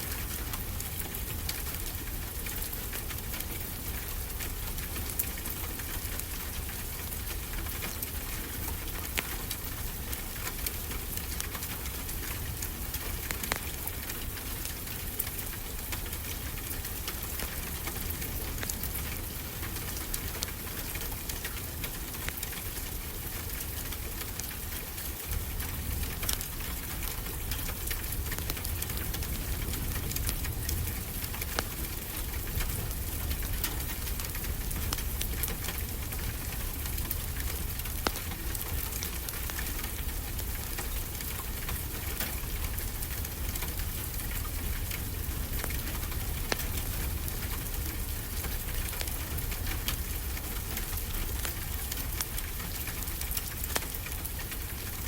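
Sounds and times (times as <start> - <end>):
steady rain falling: 0.0 - 55.0
wood fire crackling: 0.0 - 55.0.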